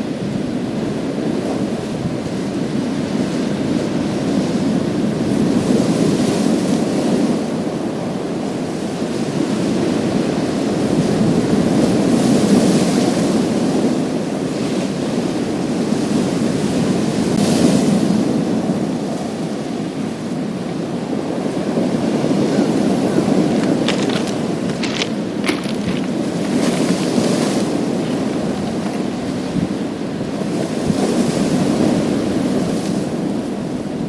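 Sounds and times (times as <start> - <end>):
waves on pebble beach: 0.8 - 34.0.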